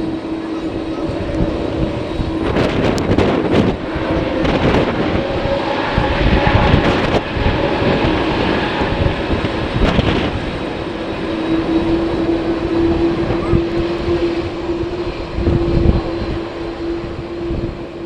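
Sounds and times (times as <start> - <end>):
jet engines running: 0.0 - 18.0
wind rumble on microphone: 0.0 - 18.0.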